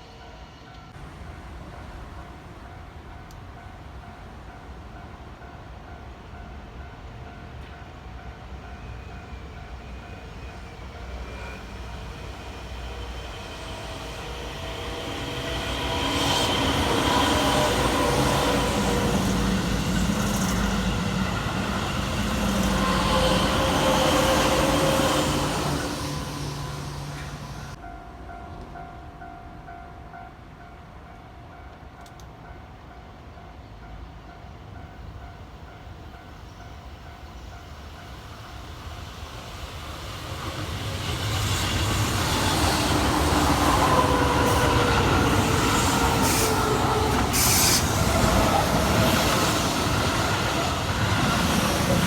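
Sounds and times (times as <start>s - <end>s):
electric train passing: 0.0s - 29.8s, 33.2s - 52.0s.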